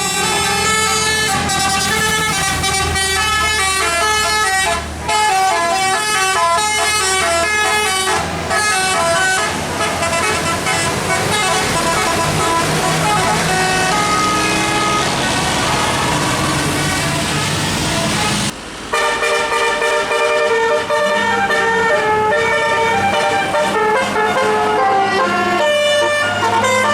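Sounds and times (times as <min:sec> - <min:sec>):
air horn playing melody: 0:00.0 - 0:26.9
bus engine running: 0:00.0 - 0:26.9.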